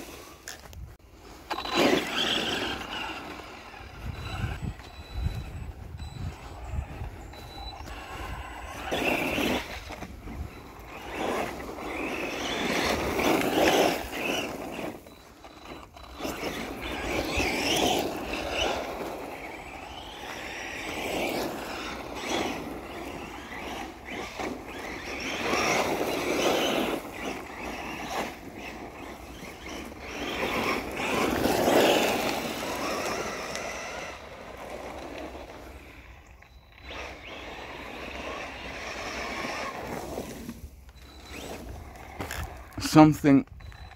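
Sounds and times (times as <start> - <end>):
electric toy car motor whine: 0.0 - 42.9
tyres on gravel: 0.0 - 43.9.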